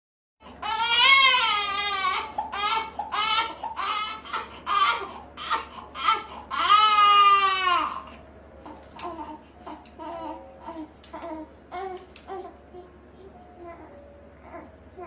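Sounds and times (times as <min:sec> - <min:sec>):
newborn baby crying: 0:00.4 - 0:15.0.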